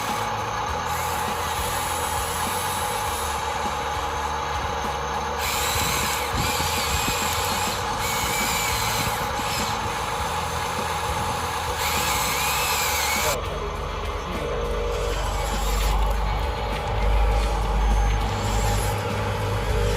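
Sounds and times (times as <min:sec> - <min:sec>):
high wavering whine: 0:00.0 - 0:19.9
small electric motors whirring: 0:00.0 - 0:19.9.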